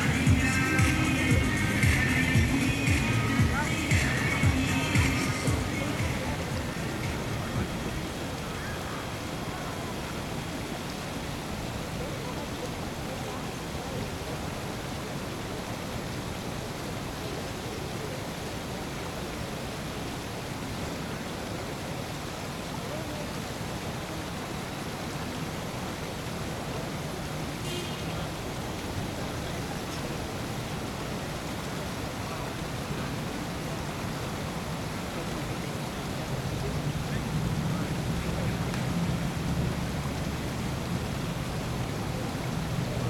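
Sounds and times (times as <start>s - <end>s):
hissing outdoor background noise: 0.0s - 43.0s.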